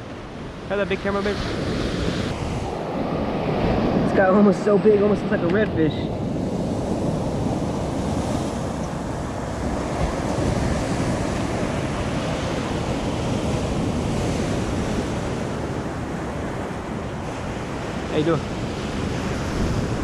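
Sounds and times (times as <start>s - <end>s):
surf rushing on beach: 0.0s - 20.0s
wind buffeting microphone: 0.0s - 20.0s.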